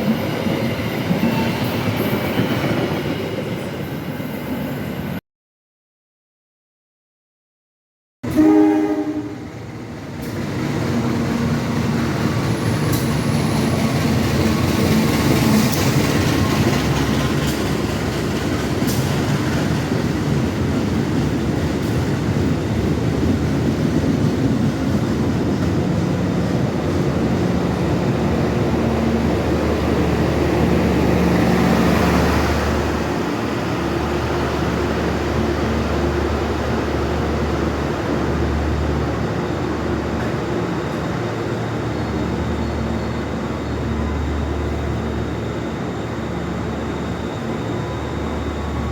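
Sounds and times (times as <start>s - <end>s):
train wheels rumbling on rails: 0.0s - 4.3s, 9.1s - 48.9s.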